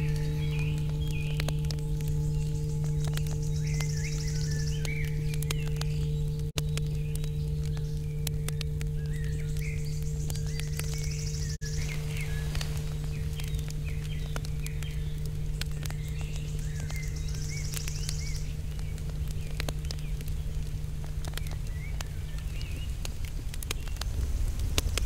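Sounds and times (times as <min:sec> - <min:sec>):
small birds chirping: 0:00.0 - 0:25.0
steady low hum: 0:00.0 - 0:25.0.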